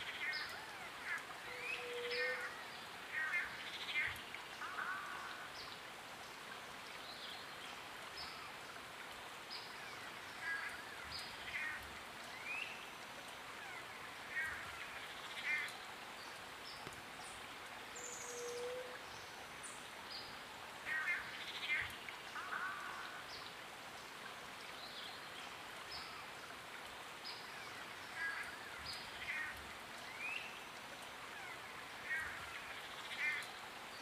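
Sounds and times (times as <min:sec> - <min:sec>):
forest hiss: 0:00.0 - 0:34.0.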